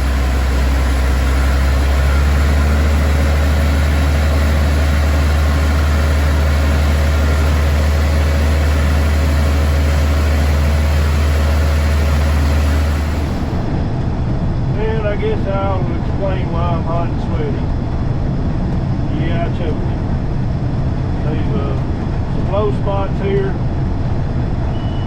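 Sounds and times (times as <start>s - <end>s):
combine harvester droning: 0.0s - 25.0s.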